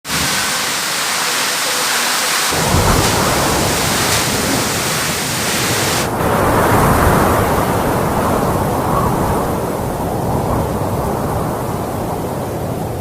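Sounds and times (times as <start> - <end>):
strong wind rushing hiss: 0.1 - 13.0
wind buffeting microphone: 2.5 - 13.0.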